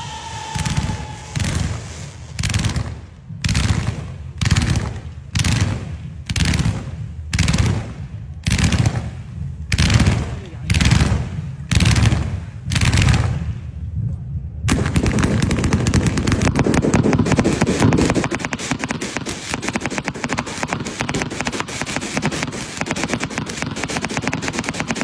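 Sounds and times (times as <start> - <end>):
firecrackers banging: 0.0 - 14.1, 14.7 - 25.0.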